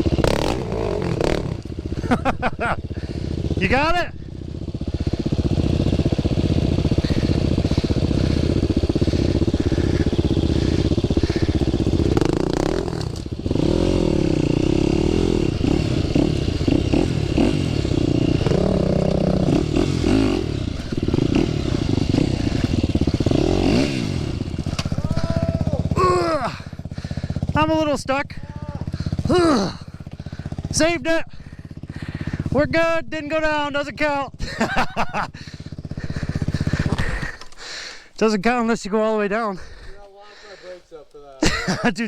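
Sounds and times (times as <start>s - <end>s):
dirt bike engine revving: 0.0s - 38.7s, 41.4s - 41.9s.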